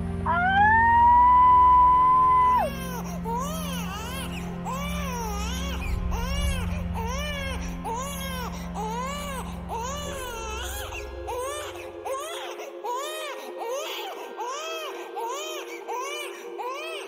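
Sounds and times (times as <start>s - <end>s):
low background music: 0.0s - 17.0s
baby crying: 1.6s - 17.0s.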